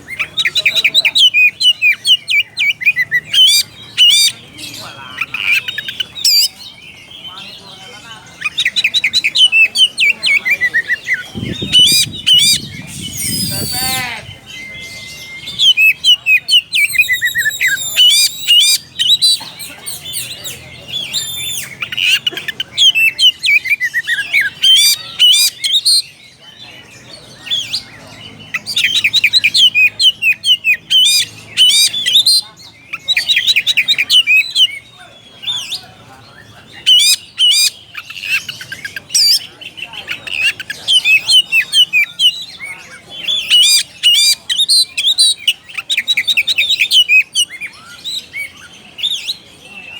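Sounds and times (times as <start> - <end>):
bird singing whistles and chatter: 0.0 - 49.9.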